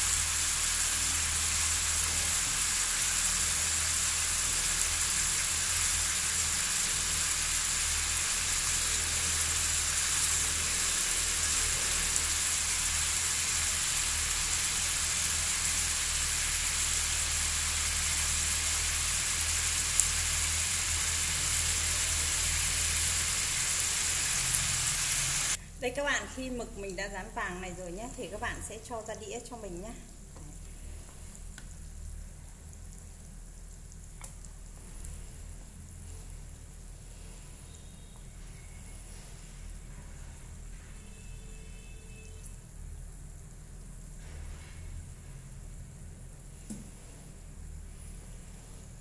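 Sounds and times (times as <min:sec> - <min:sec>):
squid sizzling in hot oil: 0:00.0 - 0:49.0.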